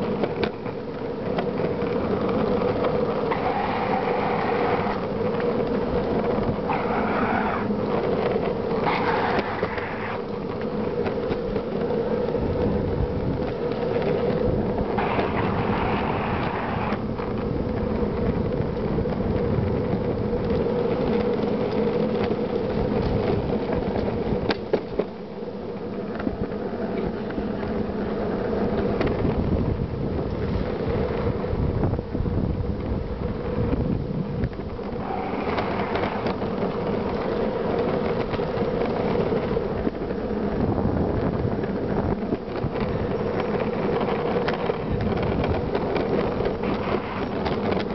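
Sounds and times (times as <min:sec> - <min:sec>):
skateboard wheels rolling on asphalt: 0:00.0 - 0:47.9.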